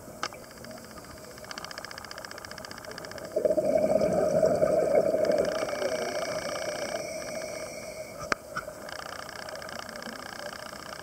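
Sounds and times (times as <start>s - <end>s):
faint steady hum: 0.0s - 11.0s
underwater bubbles gurgling: 0.3s - 11.0s.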